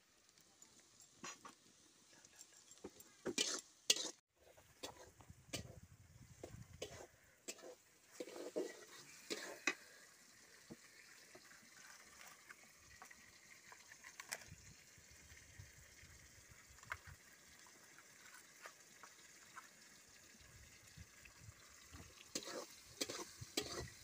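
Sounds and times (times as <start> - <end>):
wood fire hissing and crackling: 0.0 - 24.0.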